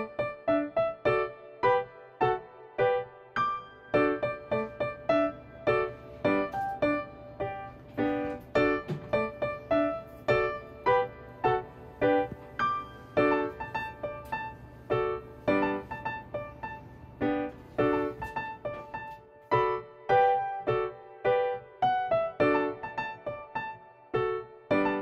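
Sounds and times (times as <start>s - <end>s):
piano melody: 0.0s - 25.0s.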